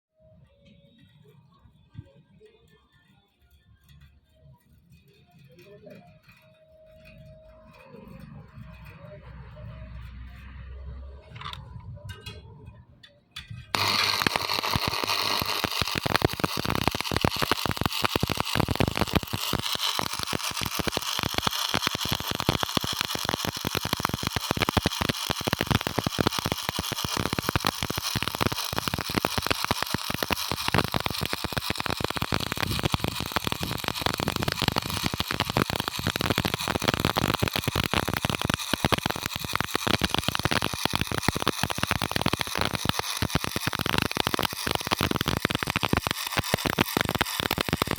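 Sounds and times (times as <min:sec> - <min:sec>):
welding arc crackling: 0:05.0 - 0:11.9, 0:13.4 - 0:47.9.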